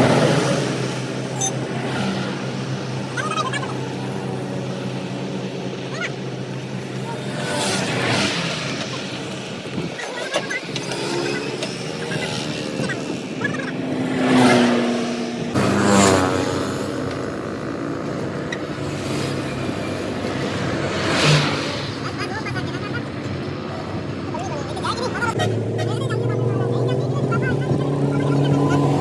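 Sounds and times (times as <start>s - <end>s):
engine humming: 0.0s - 29.0s
vehicles passing: 0.0s - 29.0s.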